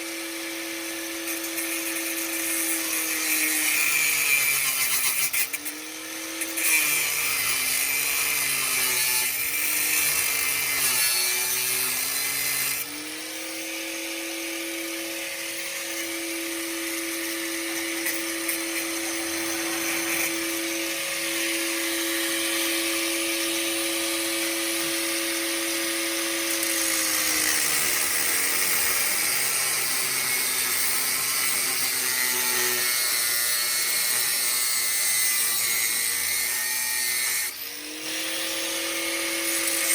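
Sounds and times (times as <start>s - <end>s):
angle grinder motor whine: 0.0s - 39.9s
grinding hiss on steel: 1.2s - 23.7s, 26.5s - 39.9s.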